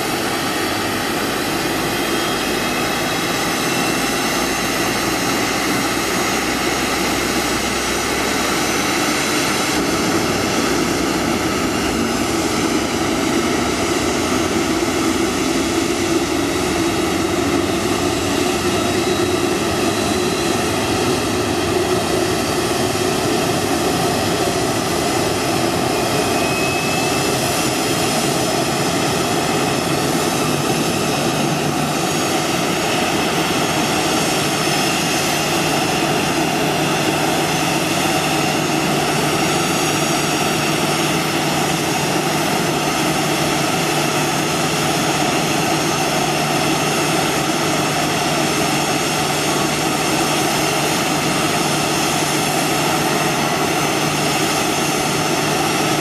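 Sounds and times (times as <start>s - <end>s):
jet turbine whine: 0.0s - 56.0s.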